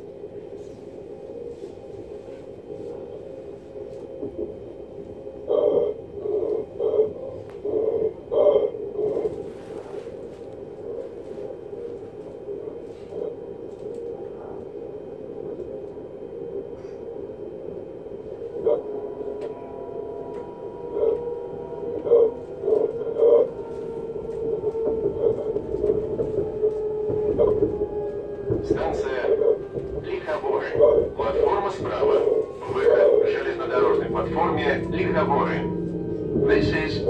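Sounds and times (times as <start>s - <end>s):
electric train running hum: 0.0s - 37.0s.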